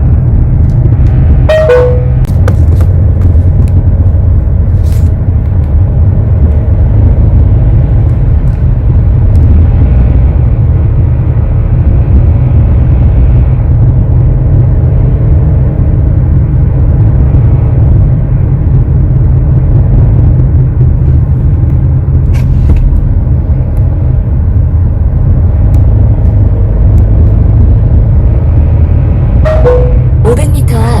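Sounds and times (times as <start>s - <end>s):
car engine drone inside cabin: 0.0s - 31.0s.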